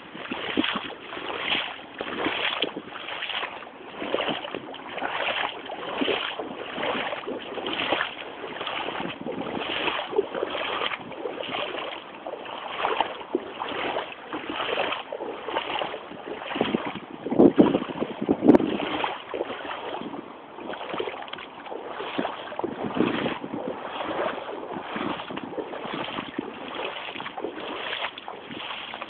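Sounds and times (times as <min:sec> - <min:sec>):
boots wading through water: 0:00.0 - 0:29.0.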